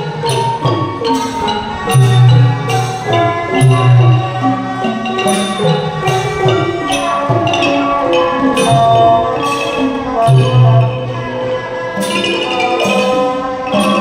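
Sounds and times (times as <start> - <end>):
gong circles melody: 0.0 - 14.0
xylophone: 0.0 - 14.0.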